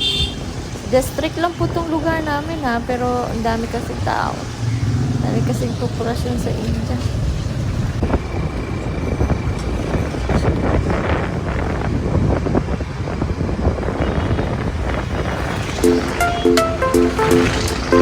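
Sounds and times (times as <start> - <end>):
vehicle road rumble: 0.0 - 18.0
wind buffeting microphone: 0.4 - 18.0.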